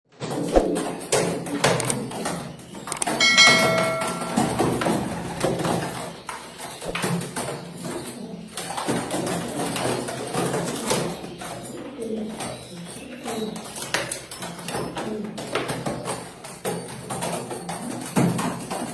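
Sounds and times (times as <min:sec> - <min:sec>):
pigeons cooing: 0:00.3 - 0:18.8.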